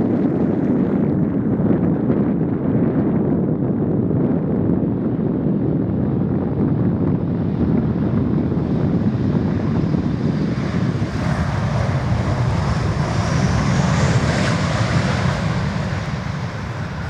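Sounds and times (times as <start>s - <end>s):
jet airliner landing: 0.0s - 17.0s.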